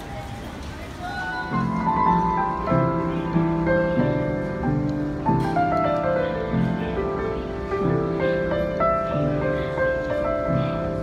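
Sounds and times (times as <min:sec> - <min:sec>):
piano ballad: 0:01.3 - 0:11.0.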